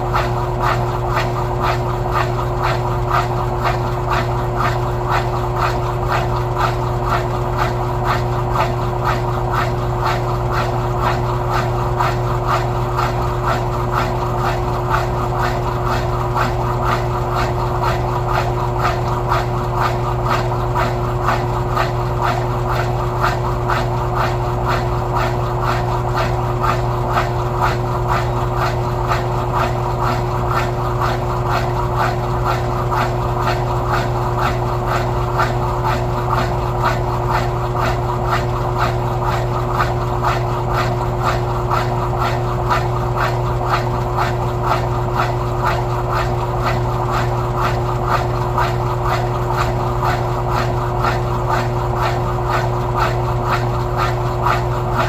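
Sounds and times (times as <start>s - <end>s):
washing machine running: 0.0s - 55.0s.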